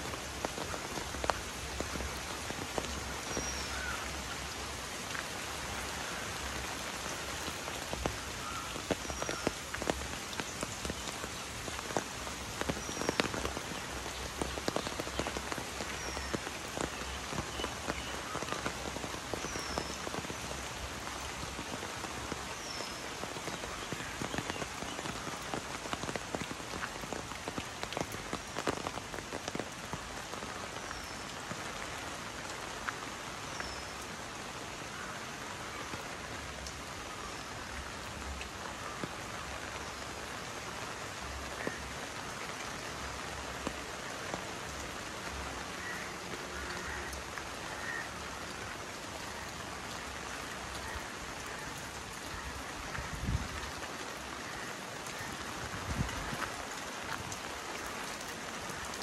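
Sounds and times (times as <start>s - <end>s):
raindrops hitting an umbrella: 0.0s - 59.0s
steady rain: 0.0s - 59.0s.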